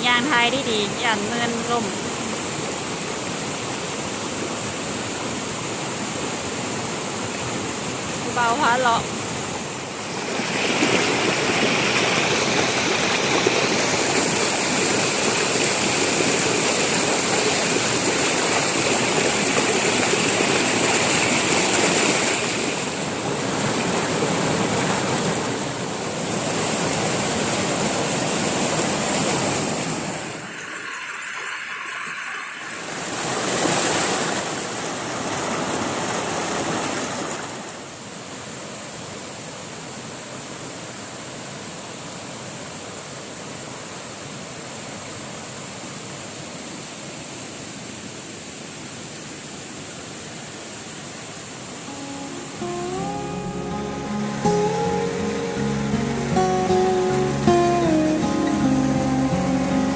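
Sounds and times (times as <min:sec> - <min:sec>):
waterfall rushing: 0:00.0 - 0:40.1, 0:46.2 - 0:59.9.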